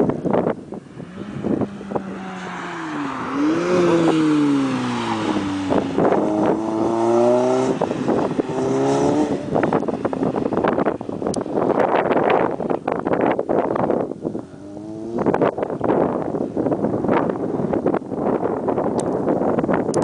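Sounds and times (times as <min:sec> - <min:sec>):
wind buffeting microphone: 0:00.0 - 0:20.0
car engine passing at speed: 0:00.1 - 0:18.8.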